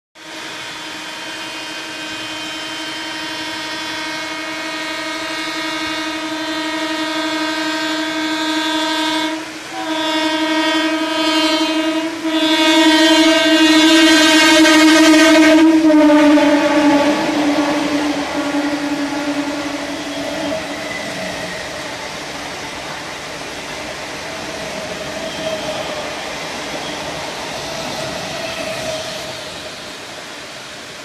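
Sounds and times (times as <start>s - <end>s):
train horn blasts: 0.2s - 26.6s.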